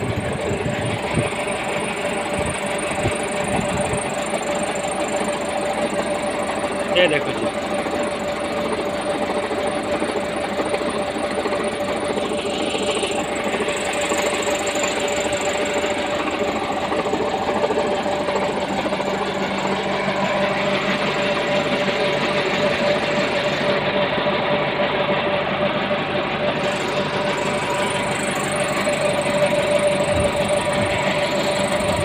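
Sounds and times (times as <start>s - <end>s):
fast machine clatter: 0.0s - 32.0s
tractor diesel engine running: 0.0s - 32.0s.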